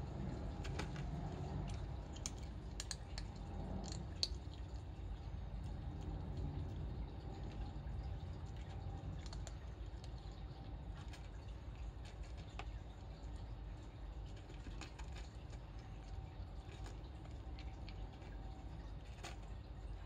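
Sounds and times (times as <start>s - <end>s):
kitten crunching dry food: 0.0s - 20.0s
low background rumble: 0.0s - 20.0s.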